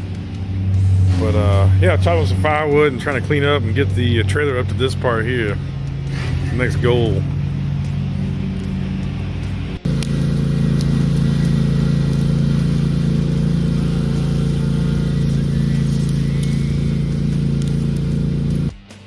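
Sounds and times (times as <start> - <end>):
engine running steadily: 0.0 - 18.8.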